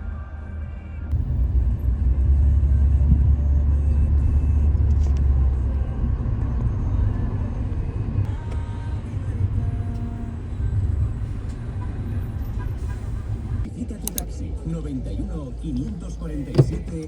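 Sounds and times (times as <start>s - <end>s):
low rumble of moving vehicle: 0.0s - 17.0s.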